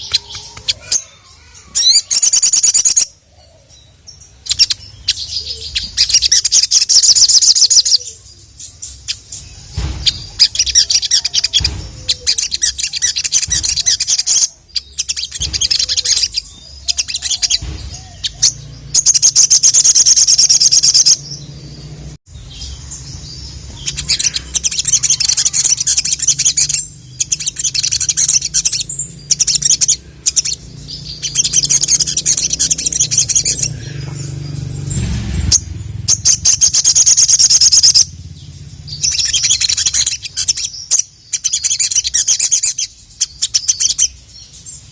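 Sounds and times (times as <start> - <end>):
bird chirping trills: 0.0 - 44.9.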